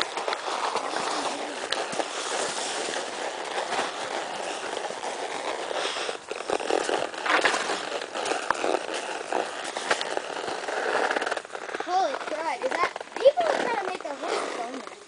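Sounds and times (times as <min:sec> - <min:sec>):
hooves on dirt and leaves: 0:00.0 - 0:15.0
steady rustling: 0:00.0 - 0:15.0.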